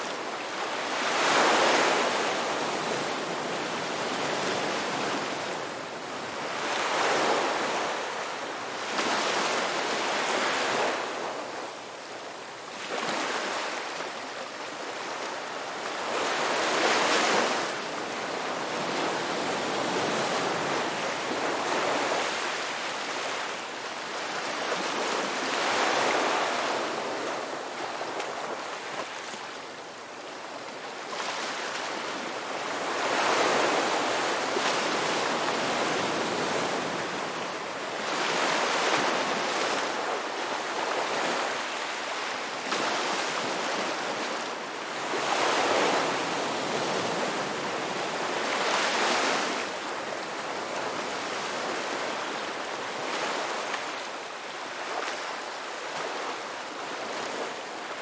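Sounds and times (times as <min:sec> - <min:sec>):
sea waves breaking on shore: 0:00.0 - 0:11.9, 0:12.7 - 0:58.0.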